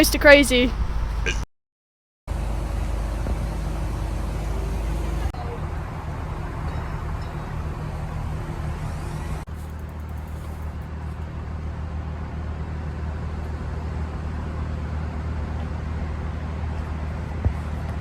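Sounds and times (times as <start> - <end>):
low rumble of road traffic: 0.0 - 1.4, 2.3 - 18.0.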